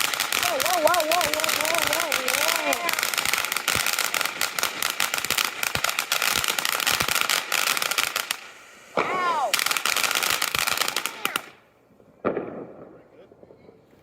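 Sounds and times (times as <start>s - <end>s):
fireworks crackling pops: 0.0s - 14.0s.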